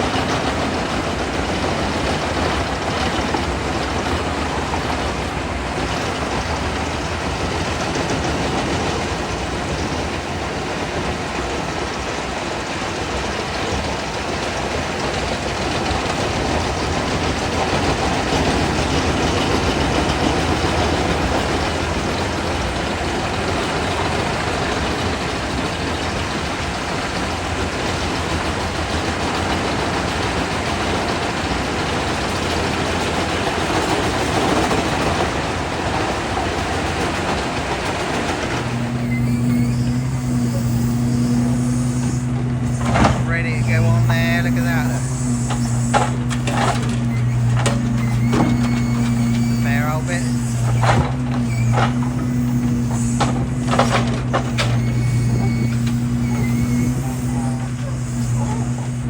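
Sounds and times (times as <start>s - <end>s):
wood chipper running: 0.0s - 59.0s.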